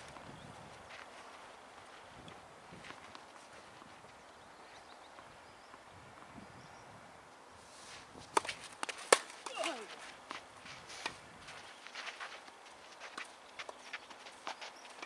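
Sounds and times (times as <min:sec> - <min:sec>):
footsteps on clay court: 0:00.0 - 0:06.3, 0:07.8 - 0:15.0.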